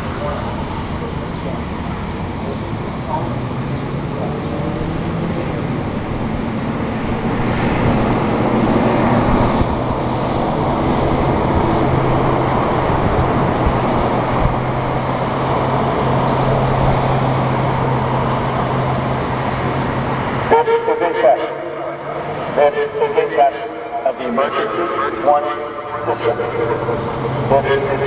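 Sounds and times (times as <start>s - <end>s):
road traffic rushing: 0.0s - 28.0s.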